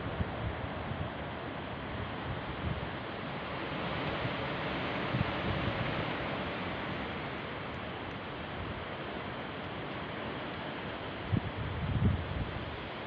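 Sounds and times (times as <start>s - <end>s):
strong wind blowing: 0.0s - 13.0s
wind buffeting the microphone: 0.0s - 13.0s.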